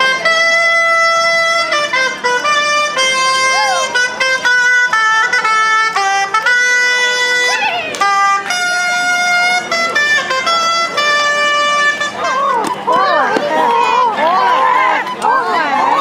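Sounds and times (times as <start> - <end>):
small wind pipe playing a tune: 0.0 - 16.0.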